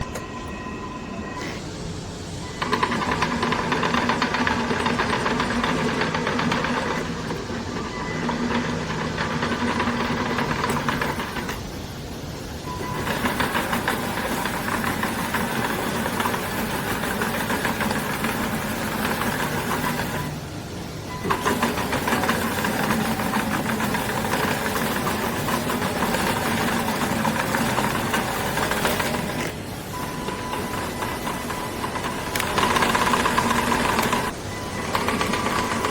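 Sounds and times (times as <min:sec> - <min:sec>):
electric lawn mower running: 0:02.6 - 0:35.9.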